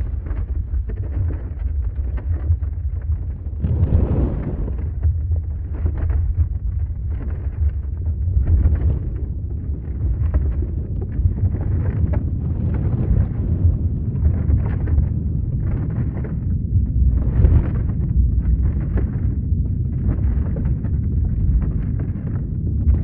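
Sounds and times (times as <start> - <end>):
crackling and rattling: 0.0 - 23.0
deep earthquake rumble: 0.0 - 23.0.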